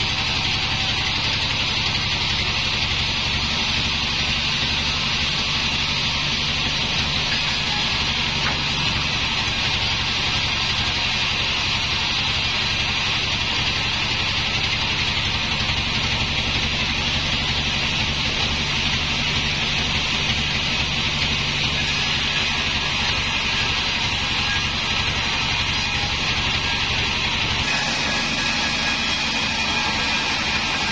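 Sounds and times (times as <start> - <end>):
band saw cutting wood: 0.0 - 30.9.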